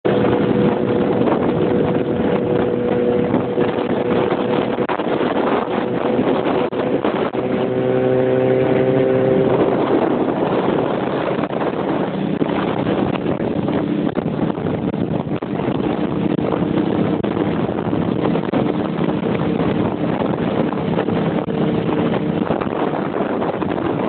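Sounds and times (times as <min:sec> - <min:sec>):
wind on microphone: 0:00.0 - 0:24.0.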